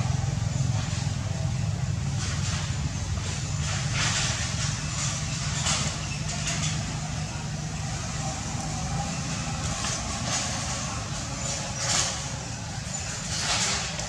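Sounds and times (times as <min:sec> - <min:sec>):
motor running with low rumble: 0:00.0 - 0:14.0.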